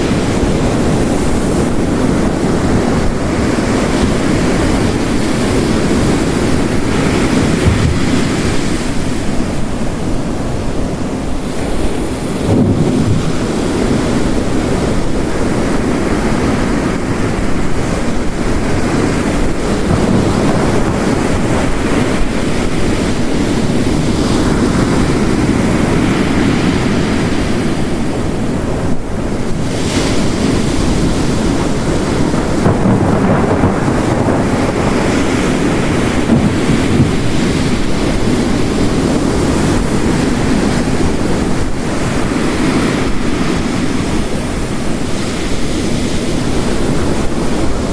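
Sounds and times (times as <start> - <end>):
heavy rain: 0.0 - 47.9
ocean surf crashing: 0.0 - 47.9.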